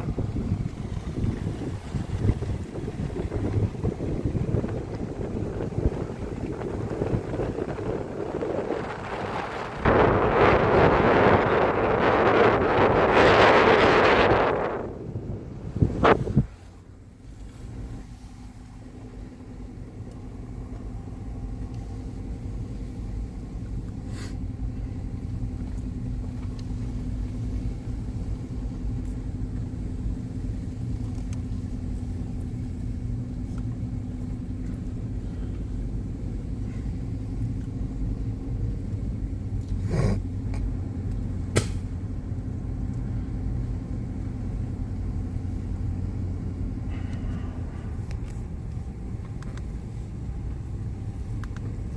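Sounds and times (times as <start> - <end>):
vehicle engine and road rumble: 0.0 - 51.9.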